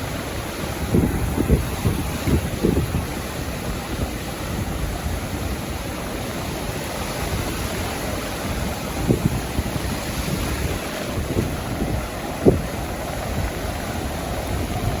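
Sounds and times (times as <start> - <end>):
sea surf washing onto beach: 0.0 - 15.0
wind buffeting microphone: 0.0 - 15.0.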